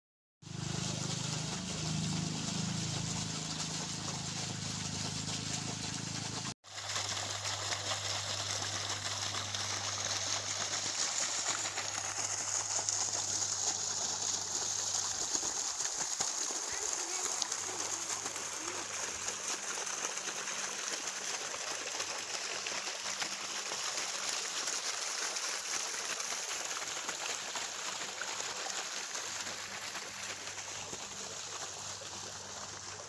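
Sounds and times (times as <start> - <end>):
water gushing from pipe: 0.4 - 33.0.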